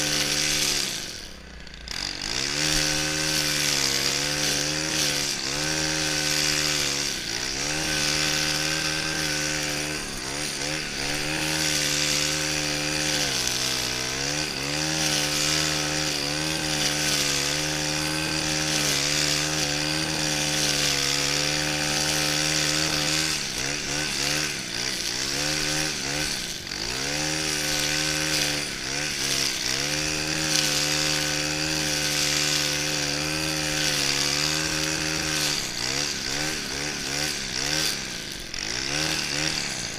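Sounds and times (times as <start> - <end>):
brushcutter engine trimming grass: 0.0 - 39.9.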